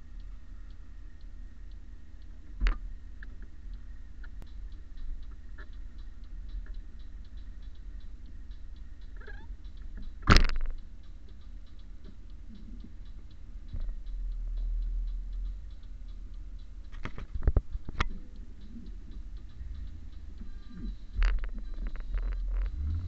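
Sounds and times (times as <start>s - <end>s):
low hum inside car: 0.0s - 17.0s, 17.6s - 23.0s.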